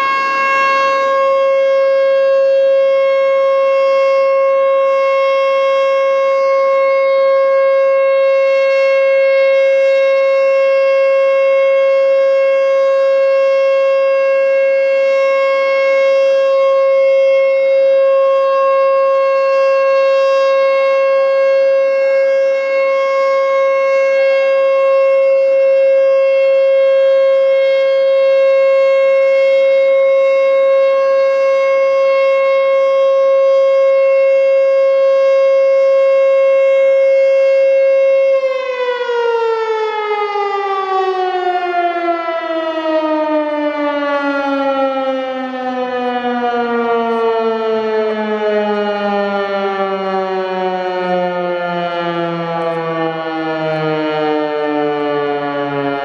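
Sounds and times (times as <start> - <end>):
warning siren steady tone: 0.0 - 56.0.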